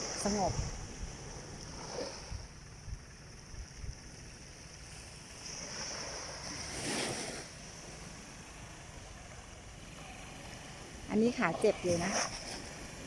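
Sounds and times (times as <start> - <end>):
sea wave washing in: 0.0 - 2.8, 4.8 - 13.0
calm surf hiss: 0.0 - 13.0.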